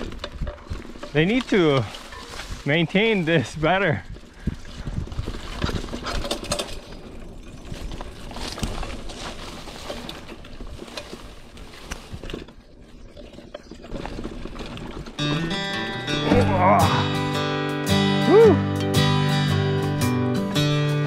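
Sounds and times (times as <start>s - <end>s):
bike rattling and knocking: 0.0s - 17.0s
bike tyre rumble: 0.0s - 17.4s.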